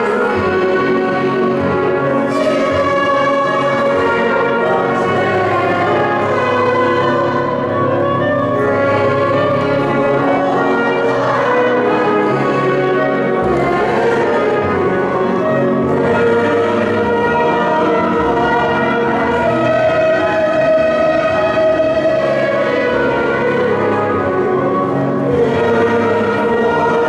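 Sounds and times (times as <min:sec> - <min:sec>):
clarinet: 0:00.0 - 0:27.0
keyboard: 0:00.0 - 0:27.0
mixed choir singing: 0:00.0 - 0:27.0
violin: 0:00.0 - 0:27.0.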